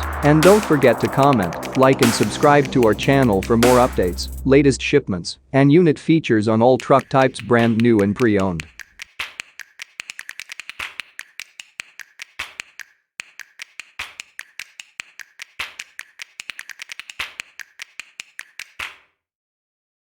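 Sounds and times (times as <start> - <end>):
rapid sharp taps: 0.0 - 4.4, 6.8 - 19.1.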